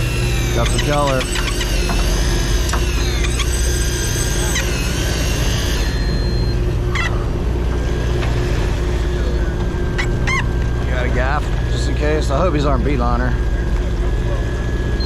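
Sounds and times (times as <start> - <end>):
electric reel motors whining: 0.0 - 15.0.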